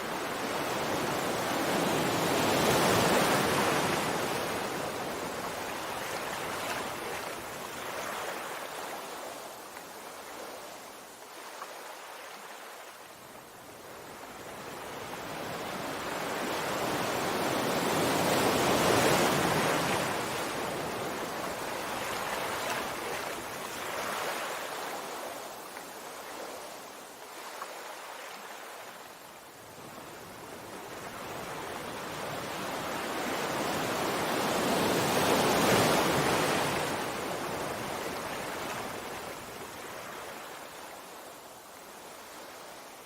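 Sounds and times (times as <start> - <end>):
sea waves washing on shore: 0.0 - 43.0.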